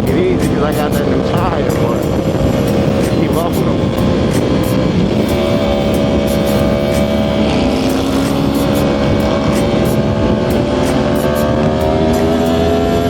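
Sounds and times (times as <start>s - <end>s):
motorcycle engine accelerating: 0.0s - 13.0s
wind noise: 0.0s - 13.0s.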